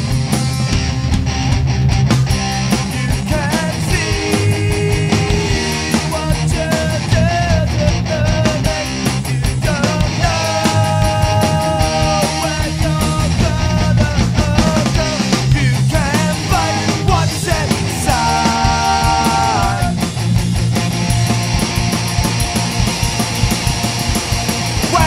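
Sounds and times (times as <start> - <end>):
bass guitar: 0.0 - 25.0
distorted electric guitars: 0.0 - 25.0
drums: 0.0 - 25.0.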